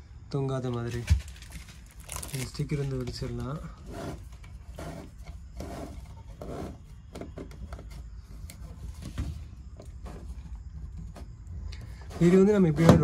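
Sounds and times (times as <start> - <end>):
plastic rubbing and scraping: 0.8 - 13.0.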